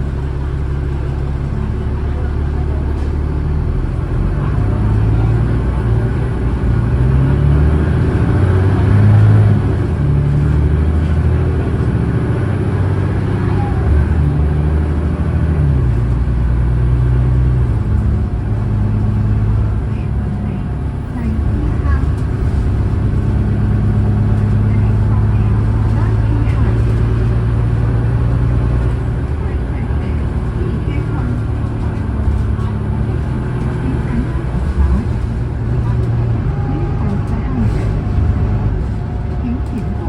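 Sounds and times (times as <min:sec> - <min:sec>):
bus diesel engine accelerating: 0:00.0 - 0:40.0.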